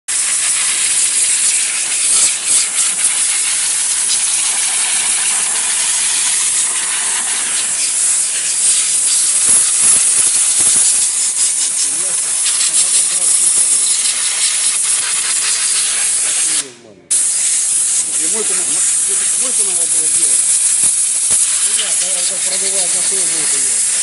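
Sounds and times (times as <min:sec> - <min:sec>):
compressed air blow gun hissing: 0:00.1 - 0:24.0.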